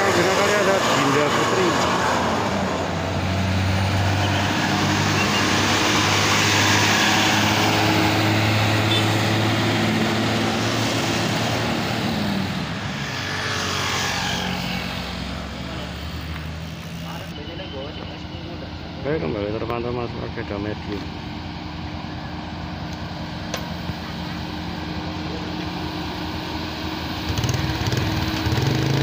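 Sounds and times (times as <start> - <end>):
bus diesel engine climbing: 0.0 - 13.9, 14.6 - 29.0.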